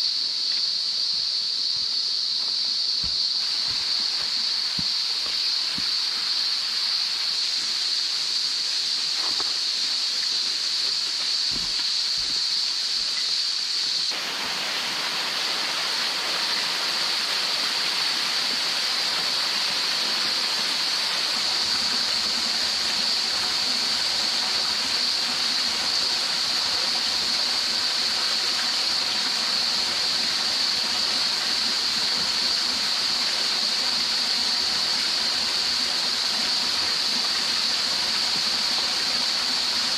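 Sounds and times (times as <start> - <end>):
cicadas chorus: 0.0 - 39.9
creek water running: 0.0 - 39.9.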